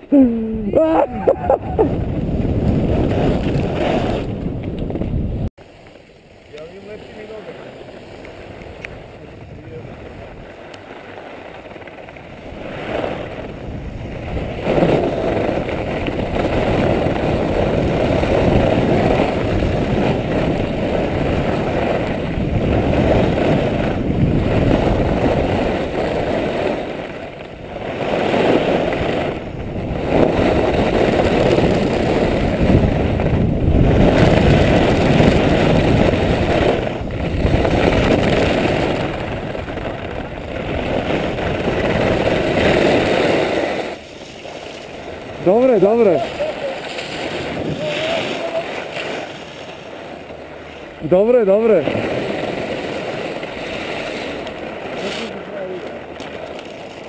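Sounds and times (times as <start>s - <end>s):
wind rushing over microphone: 0.0s - 5.6s, 6.5s - 57.0s
skis scraping over snow: 1.0s - 57.0s.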